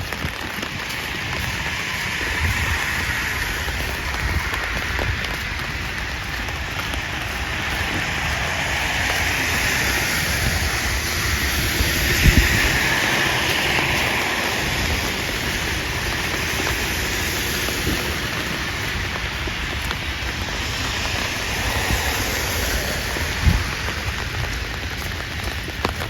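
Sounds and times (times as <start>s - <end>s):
car tyres swishing on wet road: 0.0s - 26.0s
rain on a wet street: 0.0s - 26.0s.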